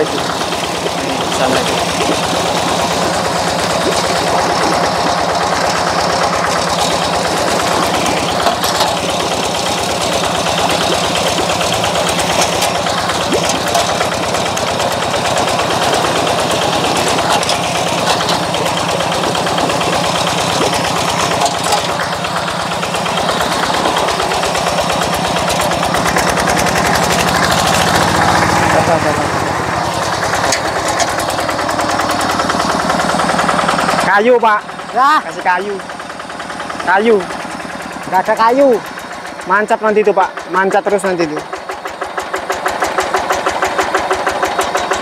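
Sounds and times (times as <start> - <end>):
diesel engine chugging: 0.0 - 45.0.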